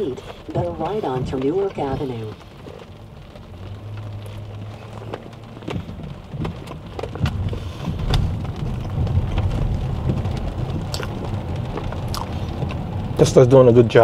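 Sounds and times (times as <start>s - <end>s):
low cabin hum: 0.0s - 14.0s
rain ticking on glass roof: 0.0s - 14.0s
road and tyre rumble: 0.0s - 14.0s.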